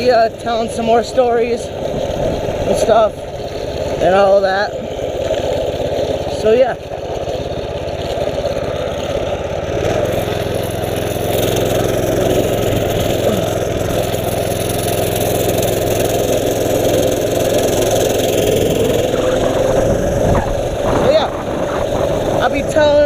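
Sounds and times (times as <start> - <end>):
small motorbike engine running: 0.0 - 23.0.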